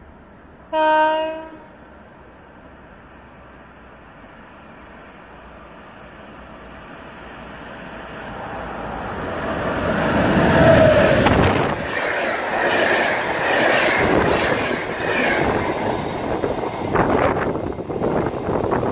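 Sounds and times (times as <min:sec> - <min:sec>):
train rushing past: 0:02.6 - 0:18.9.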